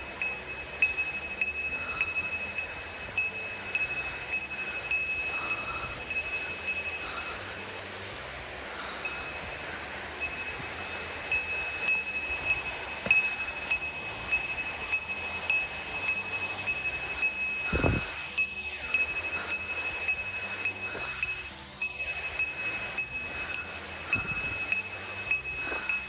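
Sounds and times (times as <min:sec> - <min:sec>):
bear bell jingling: 0:00.0 - 0:07.6, 0:08.8 - 0:26.0
steady hiss: 0:00.0 - 0:26.0.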